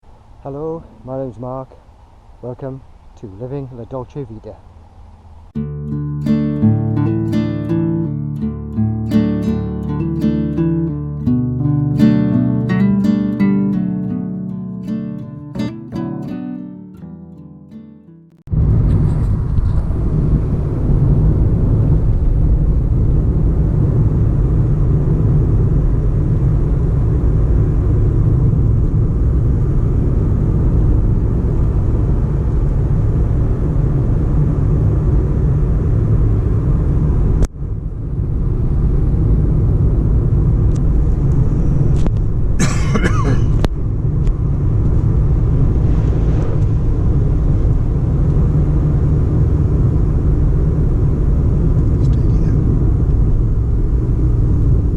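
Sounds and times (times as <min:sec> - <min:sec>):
car driving low rumble: 0:00.0 - 0:12.8, 0:18.4 - 0:54.9.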